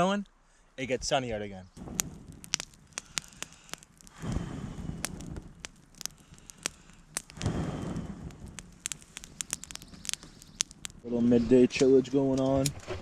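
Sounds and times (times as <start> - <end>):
campfire crackling and popping: 1.0 - 13.0.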